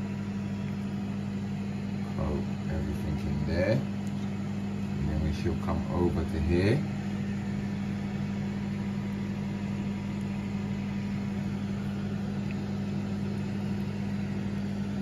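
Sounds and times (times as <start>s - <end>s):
air fryer humming: 0.0s - 15.0s.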